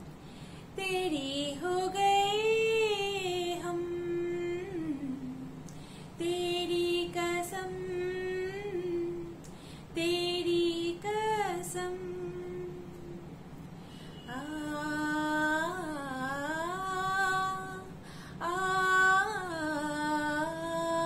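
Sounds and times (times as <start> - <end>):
woman singing unaccompanied: 0.8 - 13.4, 14.3 - 21.0.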